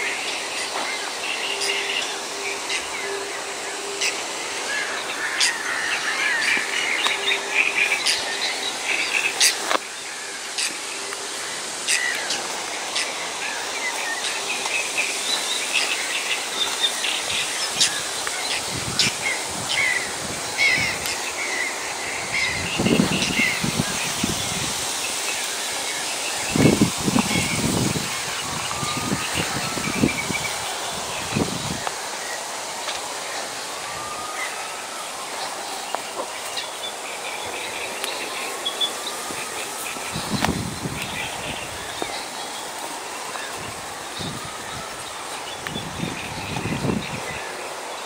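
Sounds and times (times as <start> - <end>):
outdoor hiss: 0.0 - 48.0
small birds chirping: 0.0 - 48.0.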